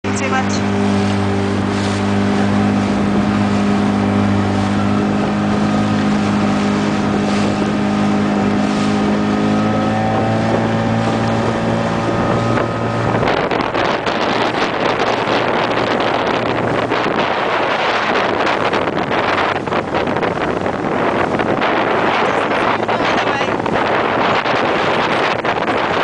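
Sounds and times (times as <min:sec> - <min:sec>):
outboard engine running: 0:00.0 - 0:26.0
water noise: 0:00.0 - 0:26.0
wind buffeting microphone: 0:00.0 - 0:26.0.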